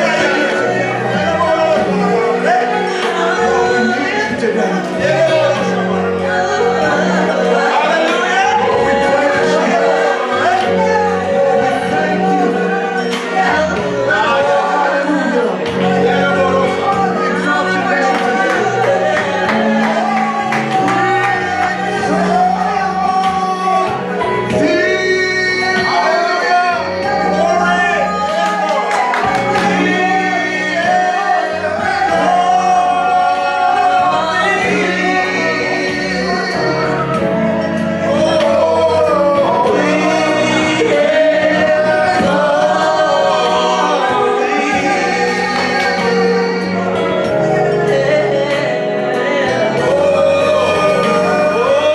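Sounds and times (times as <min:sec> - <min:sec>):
sustained instrumental accompaniment: 0:00.0 - 0:51.9
voices singing gospel song: 0:00.0 - 0:51.9.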